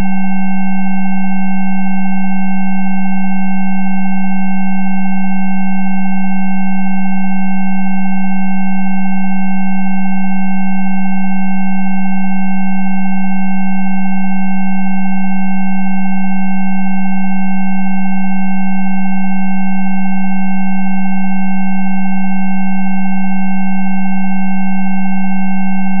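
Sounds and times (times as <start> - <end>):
low pure tone: 0.0 - 26.0.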